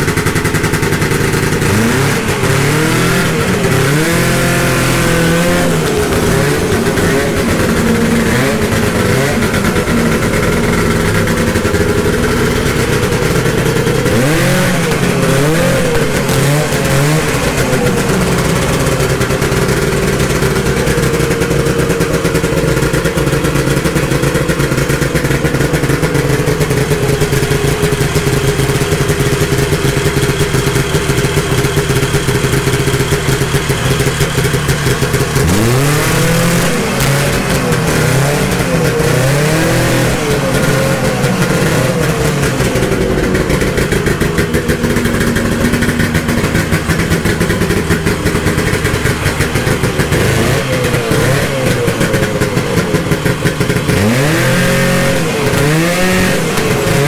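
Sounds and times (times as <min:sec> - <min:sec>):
two-stroke engine idling and revving: 0:00.0 - 0:57.0.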